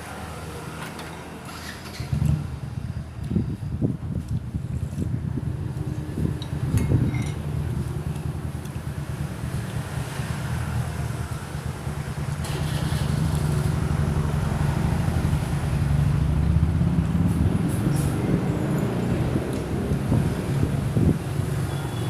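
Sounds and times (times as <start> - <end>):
vehicle rumble: 0.0 - 22.0
wind buffeting microphone: 2.1 - 21.8.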